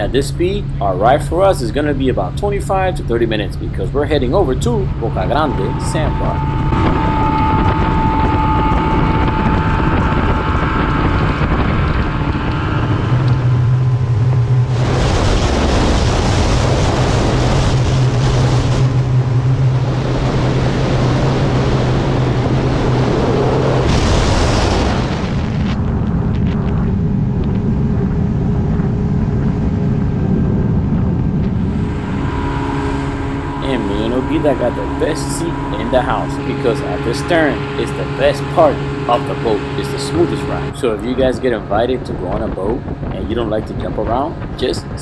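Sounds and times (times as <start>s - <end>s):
outboard engine whining: 0.0s - 45.0s
wind and water rushing: 0.0s - 45.0s.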